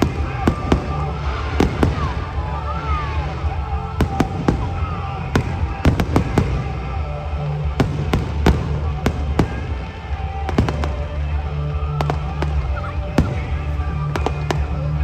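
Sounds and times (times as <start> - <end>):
fireworks bangs: 0.0 - 15.0
music playing: 0.0 - 15.0.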